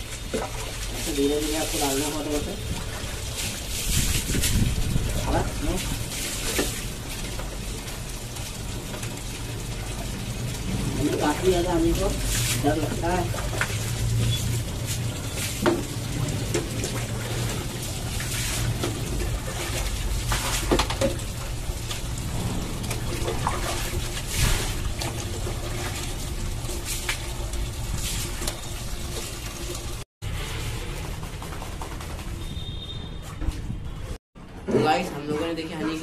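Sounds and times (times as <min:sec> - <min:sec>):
tap water running onto tiles: 0:00.0 - 0:30.0
water splashing on a dog: 0:00.0 - 0:33.2.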